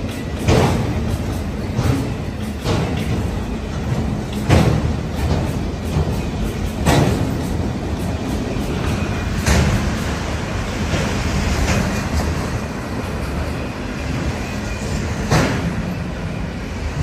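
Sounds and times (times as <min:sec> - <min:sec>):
sharp knocks from train cars: 0:00.0 - 0:13.5, 0:14.1 - 0:17.0
train wheels rumbling on rail: 0:00.0 - 0:17.0.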